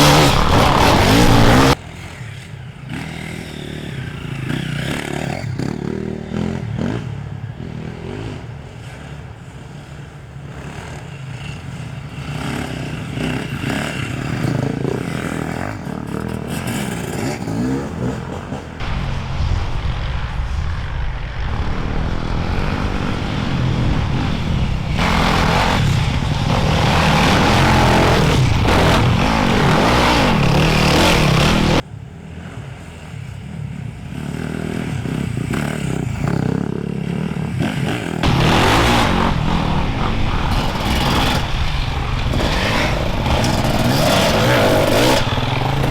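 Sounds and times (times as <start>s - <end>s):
motorcycles revving and passing: 0.0s - 45.9s.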